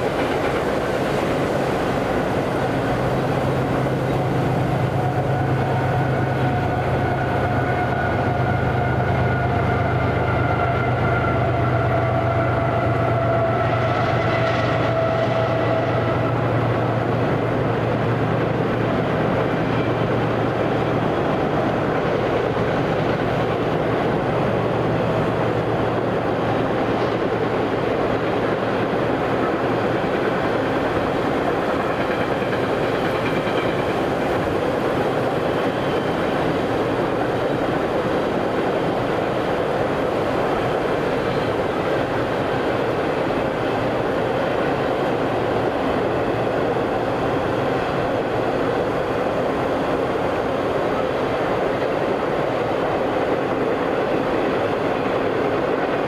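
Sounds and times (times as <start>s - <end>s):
train rumbling over rails: 0.0s - 56.0s.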